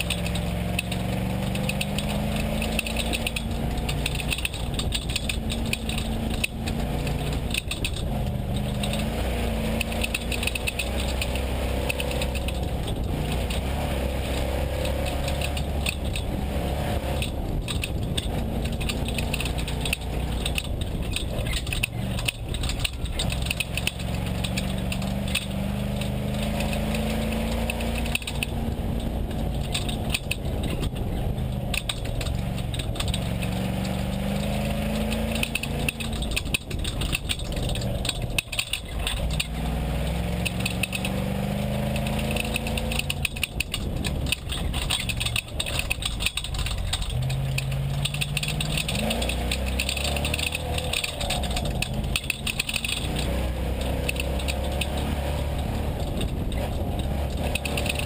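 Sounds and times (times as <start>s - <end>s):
shock absorbers clicking and rattling: 0.0s - 58.0s
truck engine accelerating: 0.0s - 58.0s.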